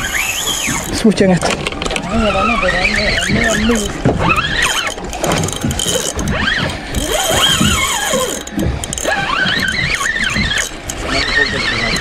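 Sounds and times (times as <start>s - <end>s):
fishing reel drag whining: 0.0s - 12.0s.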